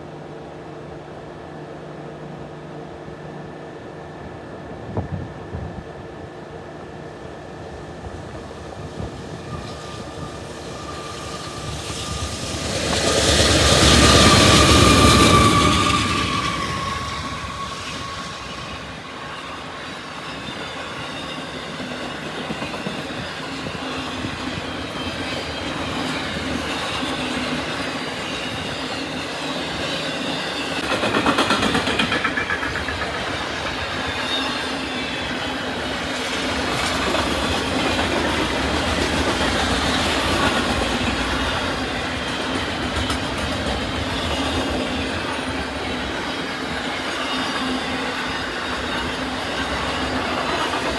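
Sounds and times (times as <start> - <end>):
train wheels clicking over rail joints: 8.9 - 19.2, 20.0 - 50.9
wheel squeal: 9.0 - 50.9.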